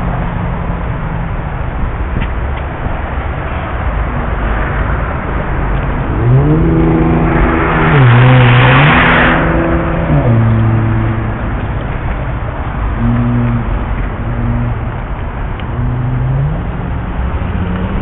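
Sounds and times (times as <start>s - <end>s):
motor vehicle passing by: 3.2s - 18.0s.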